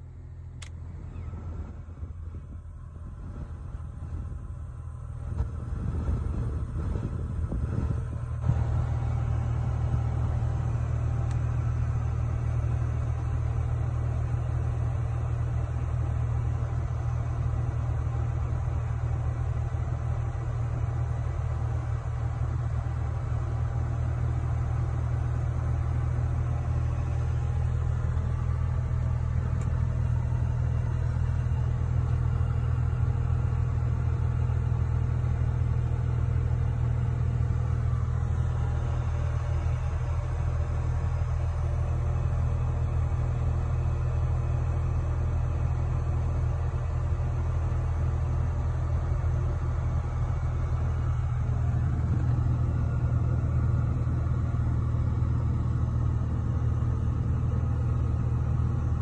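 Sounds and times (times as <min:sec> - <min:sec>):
low drone inside car cabin: 0:00.0 - 0:59.0.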